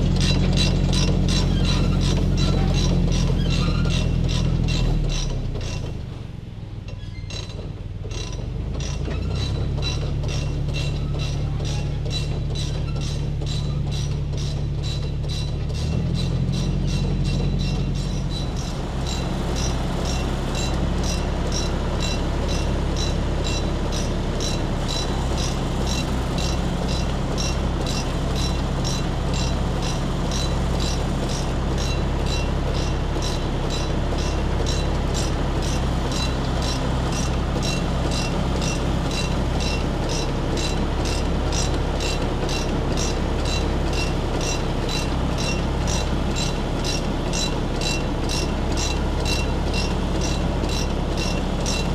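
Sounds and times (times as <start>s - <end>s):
tractor engine running under load: 0.0s - 51.9s.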